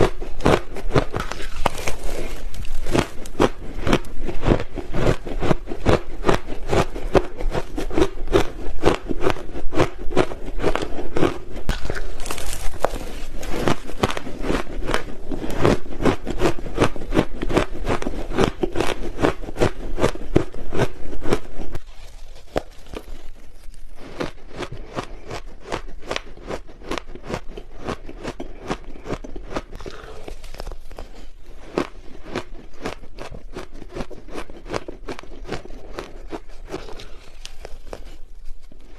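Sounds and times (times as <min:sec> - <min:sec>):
ice crunching in the mouth: 0:00.0 - 0:38.9.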